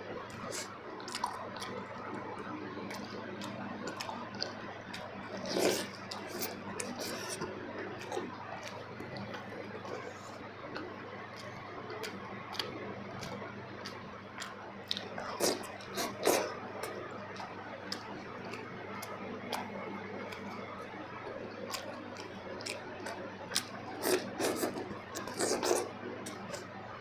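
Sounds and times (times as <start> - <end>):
wet chewing: 0.3 - 20.6, 21.2 - 26.8.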